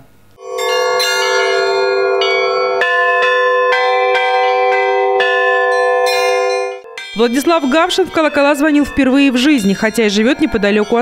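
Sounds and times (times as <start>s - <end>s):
church bells ringing: 0.4s - 11.0s.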